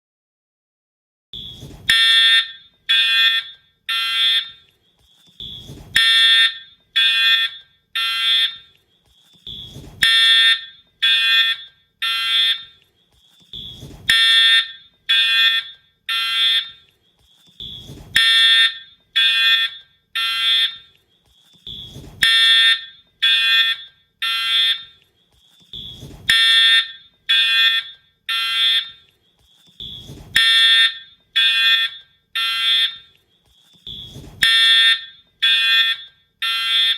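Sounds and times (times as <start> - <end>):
fire alarm horn blasts: 1.4 - 4.6, 5.4 - 8.7, 9.4 - 12.8, 13.5 - 16.8, 17.6 - 20.9, 21.6 - 25.0, 25.7 - 29.1, 29.8 - 33.1, 33.8 - 36.9.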